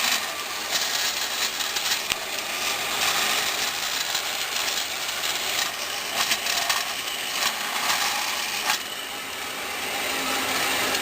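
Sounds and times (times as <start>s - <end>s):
bandsaw cutting metal: 0.0s - 11.0s.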